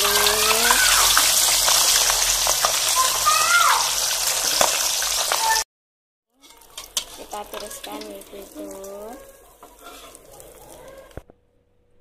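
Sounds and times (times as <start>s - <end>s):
fish sizzling in hot oil: 0.0s - 5.6s, 6.4s - 11.1s.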